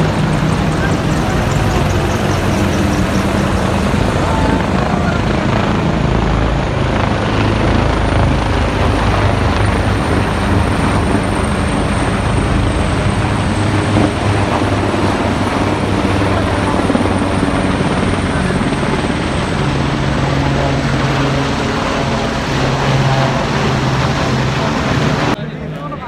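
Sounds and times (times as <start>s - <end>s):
helicopters flying overhead: 0.0s - 26.0s.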